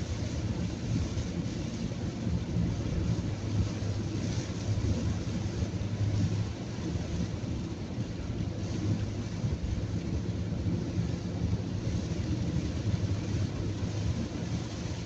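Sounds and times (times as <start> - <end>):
rain and tyre spray hiss: 0.0 - 15.0
vehicle rumble on wet road: 0.0 - 15.0.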